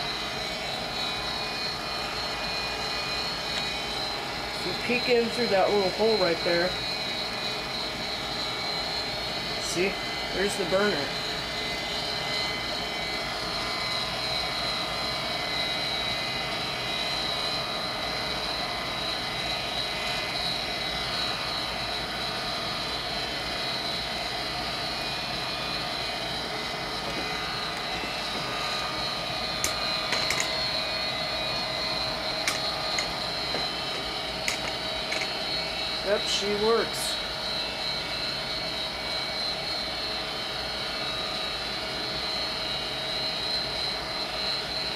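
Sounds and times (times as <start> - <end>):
gas furnace whirring with whine: 0.0 - 44.9.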